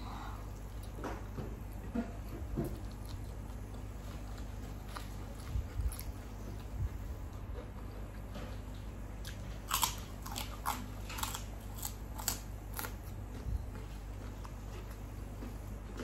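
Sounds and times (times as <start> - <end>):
crunchy chewing of crisp food: 0.0 - 16.0
faint low hum: 0.0 - 16.0.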